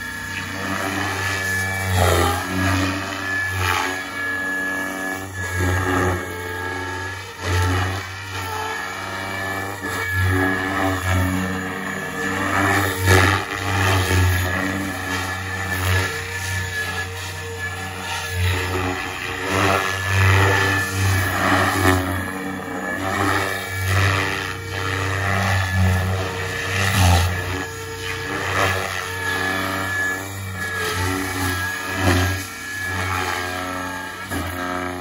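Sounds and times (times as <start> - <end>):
helicopter rotor hum and whoosh: 0.0 - 35.0
thin high whine: 0.0 - 35.0.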